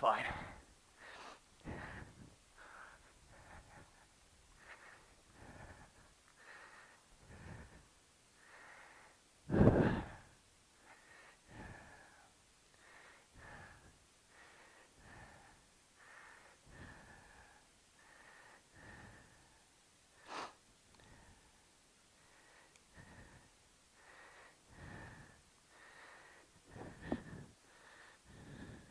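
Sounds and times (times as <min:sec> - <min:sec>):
person breathing: 0:00.0 - 0:28.9.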